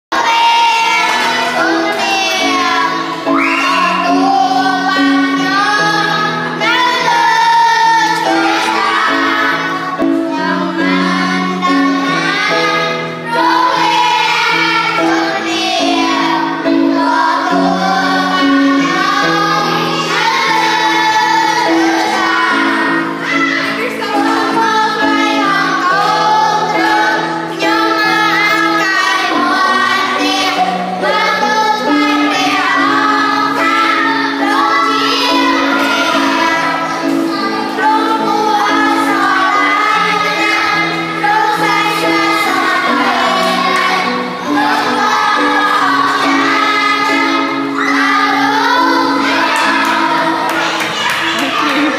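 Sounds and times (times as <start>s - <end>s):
children singing: 0.0s - 51.9s.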